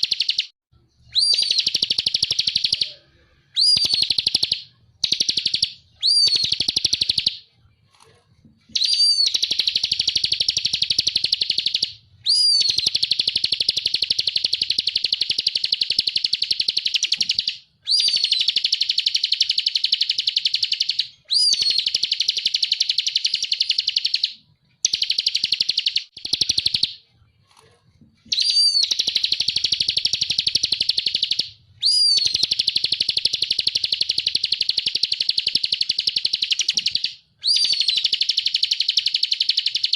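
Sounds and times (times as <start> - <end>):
bird singing rapid trill: 0.0 - 7.4, 8.7 - 27.0, 28.3 - 39.9.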